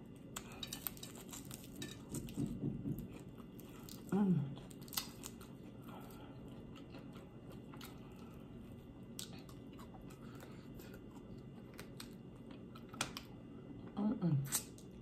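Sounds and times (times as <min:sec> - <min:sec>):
chewing chicken wing: 0:00.0 - 0:13.9.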